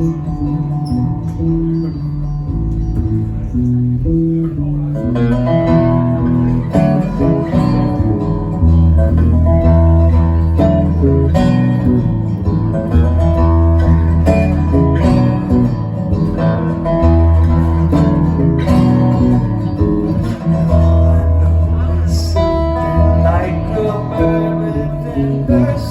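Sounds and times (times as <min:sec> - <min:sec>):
guitars playing: 0:00.0 - 0:25.9
sustained bass notes: 0:00.0 - 0:25.9.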